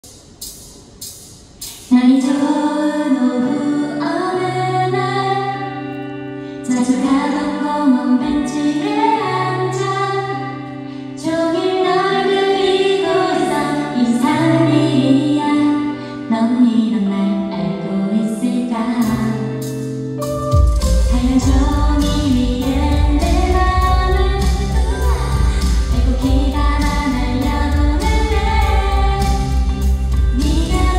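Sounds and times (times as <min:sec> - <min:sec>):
soft instrumental accompaniment: 0:00.0 - 0:30.9
woman singing a slow ballad: 0:01.9 - 0:20.0, 0:20.8 - 0:30.9.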